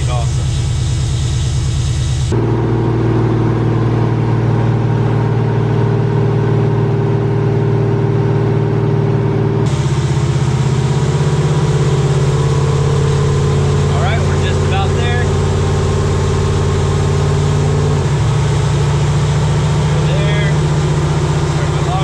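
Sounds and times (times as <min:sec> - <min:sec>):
truck engine running steadily: 0:00.0 - 0:22.0.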